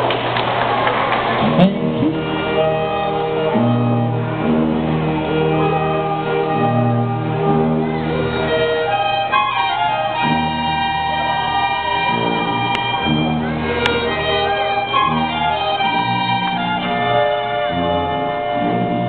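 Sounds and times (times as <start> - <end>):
concert band playing: 1.2 - 19.0
sousaphone bass line: 1.4 - 19.0.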